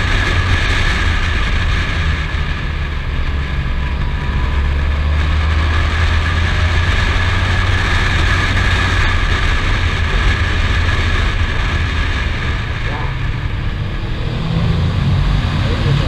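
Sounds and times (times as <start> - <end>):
motorcycle engine drone: 0.0 - 16.0
wind rushing over microphone: 0.0 - 16.0.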